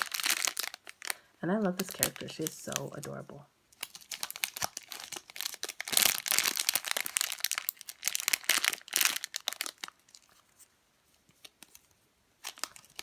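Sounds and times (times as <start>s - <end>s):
plastic packaging crinkling: 0.0s - 10.6s, 11.3s - 13.0s.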